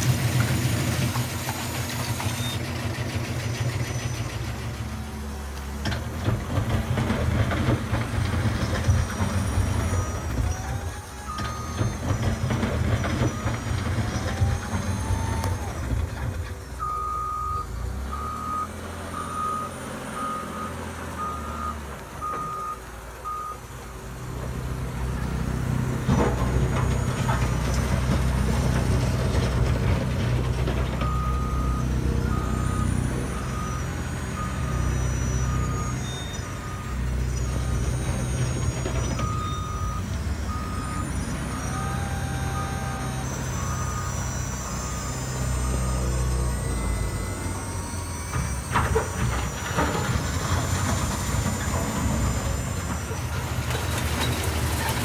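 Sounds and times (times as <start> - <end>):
reversing beeper: 0.0 - 5.0, 6.2 - 23.7, 25.2 - 55.0
simulated diesel engine hum: 0.0 - 55.0.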